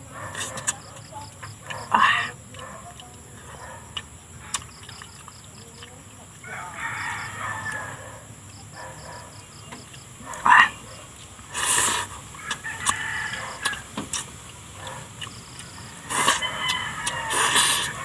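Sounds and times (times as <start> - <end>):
man eating with mouth sounds: 0.0 - 6.5, 7.8 - 18.0
chickens clucking: 0.0 - 18.0.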